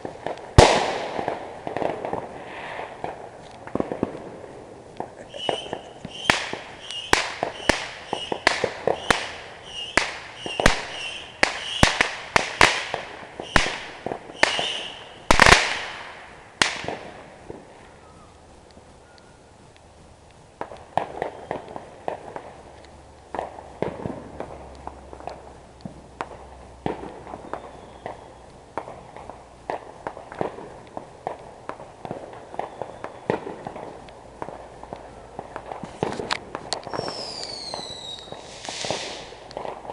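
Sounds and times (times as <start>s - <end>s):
fireworks bangs: 0.0s - 18.4s, 20.6s - 39.9s
faint fireworks pops: 0.0s - 39.9s.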